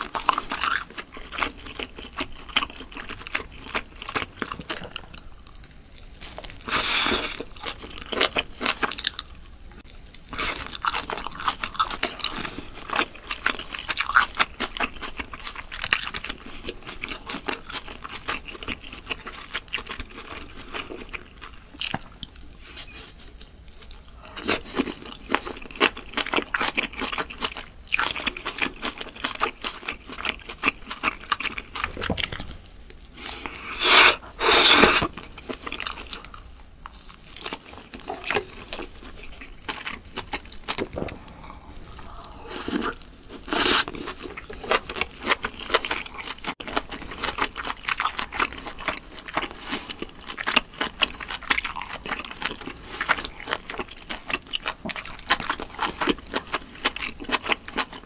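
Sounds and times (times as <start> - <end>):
chewing and crunching meat: 0.0 - 58.0.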